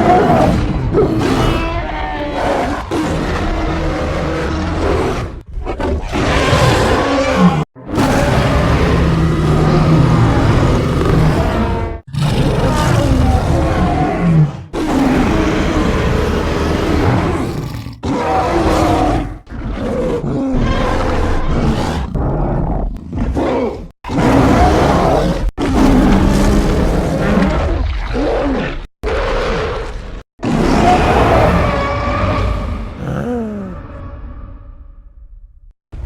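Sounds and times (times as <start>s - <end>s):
creature roars and grunts: 0.0s - 34.2s.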